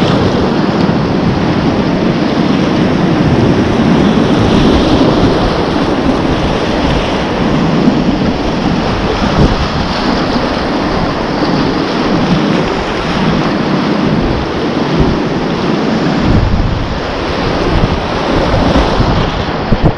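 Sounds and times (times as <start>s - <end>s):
water splashing over kayak: 0.0s - 19.9s
whitewater rapids rushing: 0.0s - 19.9s
wind buffeting microphone: 0.0s - 19.9s.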